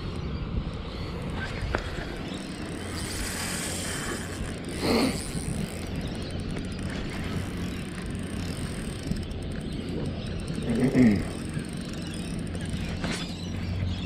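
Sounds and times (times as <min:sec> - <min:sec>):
spinning reel being wound: 0:02.2 - 0:13.6.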